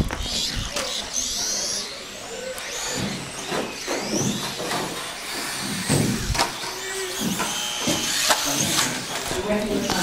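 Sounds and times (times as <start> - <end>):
toy car motors whining: 0.0 - 10.0.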